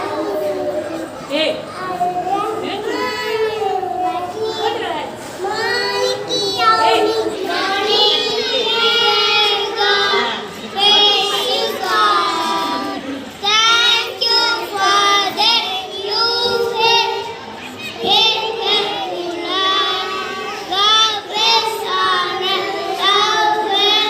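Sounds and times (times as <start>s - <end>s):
child singing: 0.0s - 1.1s, 1.7s - 24.0s.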